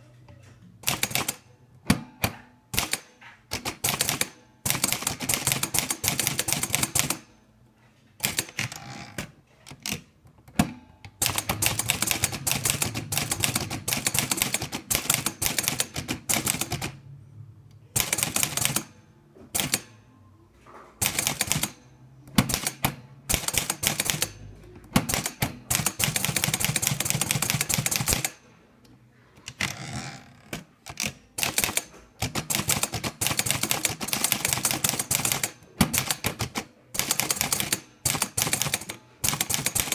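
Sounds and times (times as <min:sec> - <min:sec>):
typewriter carriage return: 0:00.4 - 0:07.3, 0:08.2 - 0:17.0, 0:17.9 - 0:20.0, 0:20.7 - 0:28.4, 0:29.4 - 0:39.9
typewriter key strikes: 0:00.8 - 0:07.3, 0:09.7 - 0:17.0, 0:18.0 - 0:18.9, 0:19.5 - 0:20.0, 0:21.0 - 0:28.4, 0:30.5 - 0:39.9.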